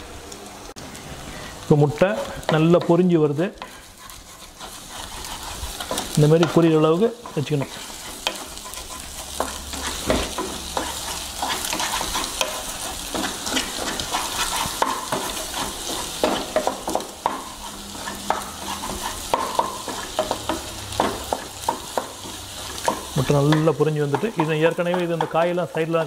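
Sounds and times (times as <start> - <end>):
eggs sizzling in oil: 0.0 - 26.0
spatula scraping and knocking pan: 2.1 - 26.0.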